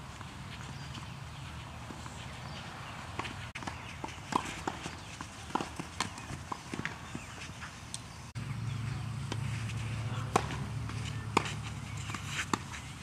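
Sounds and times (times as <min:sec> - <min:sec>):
tennis balls bouncing on clay: 0:00.0 - 0:08.1, 0:08.8 - 0:13.0
tennis balls struck by rackets: 0:00.2 - 0:08.1, 0:08.8 - 0:13.0.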